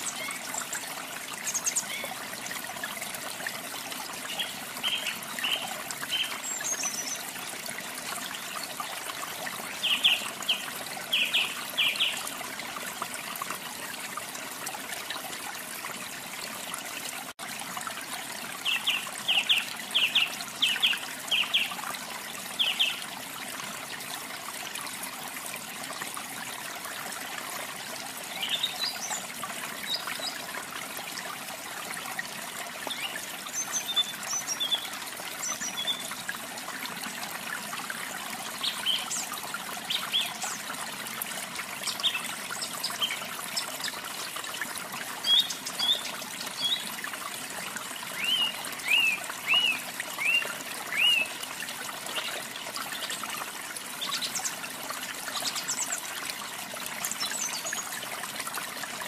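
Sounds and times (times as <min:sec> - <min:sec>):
trickle of running water: 0:00.0 - 0:59.0.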